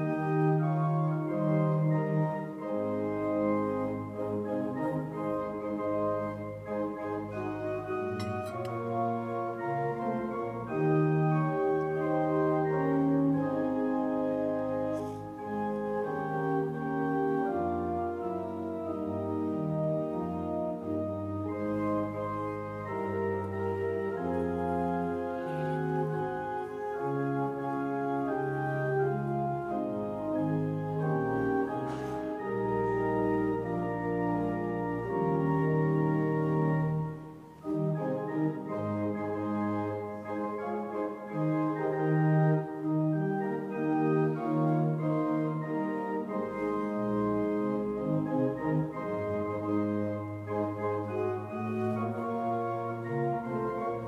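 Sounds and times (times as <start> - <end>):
organ playing slow held chords: 0.0 - 54.0.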